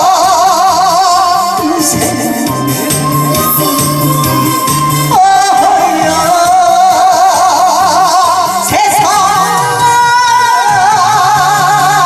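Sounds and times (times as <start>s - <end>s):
backing track music: 0.0s - 12.0s
woman singing into a microphone: 0.0s - 12.0s.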